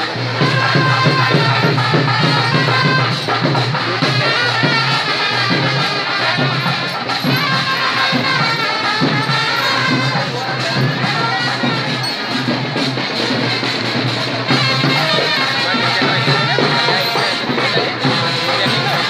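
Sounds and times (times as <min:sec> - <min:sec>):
drum strokes: 0:00.0 - 0:19.0.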